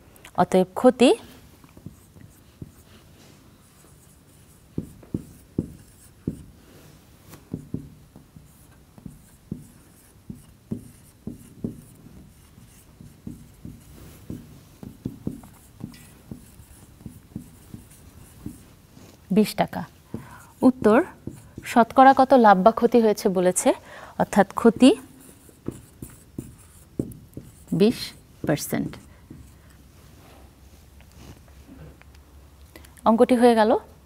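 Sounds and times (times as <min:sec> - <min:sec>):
marker pen writing on whiteboard: 0:01.1 - 0:29.9.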